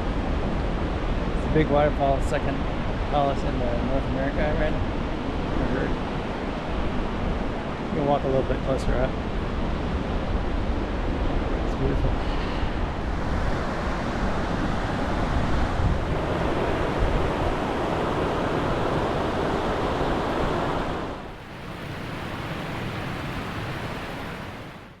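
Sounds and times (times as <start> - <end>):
wind buffeting microphone: 0.0 - 24.8.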